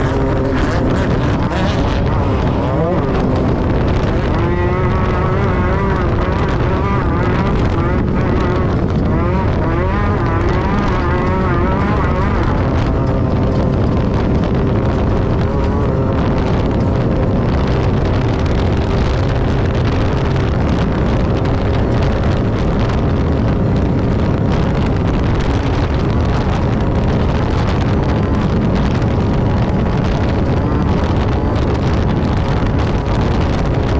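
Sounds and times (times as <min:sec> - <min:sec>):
heavy low rumble: 0:00.0 - 0:33.9
racing buggy engine drone: 0:00.0 - 0:33.9
wind noise on microphone: 0:00.0 - 0:33.9.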